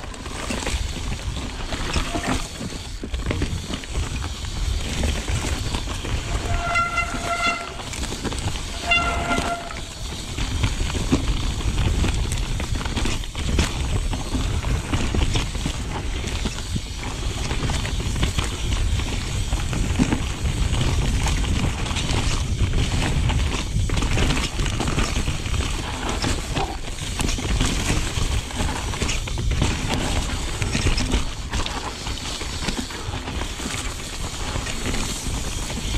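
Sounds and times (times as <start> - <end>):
mountain bike rattling on dirt: 0.0 - 35.9.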